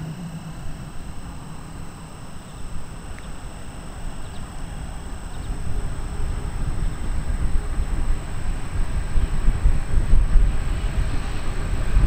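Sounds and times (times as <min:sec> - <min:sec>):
distant train rumbling: 0:00.0 - 0:12.0.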